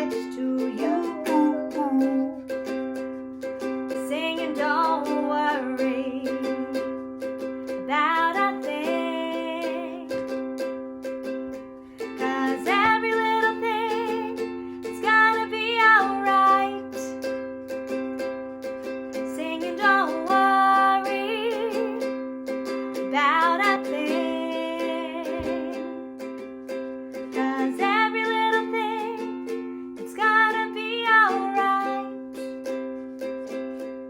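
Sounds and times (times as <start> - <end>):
person singing: 0.0 - 10.7, 11.9 - 26.5, 27.1 - 34.0
strummed stringed instrument: 0.0 - 34.0.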